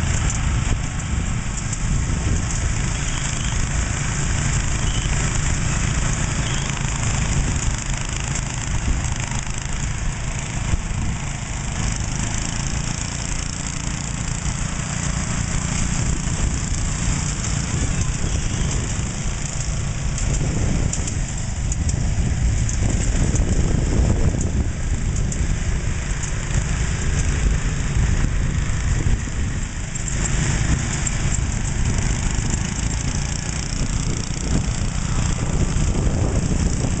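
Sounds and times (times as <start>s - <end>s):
garden tractor engines running: 0.0s - 37.0s.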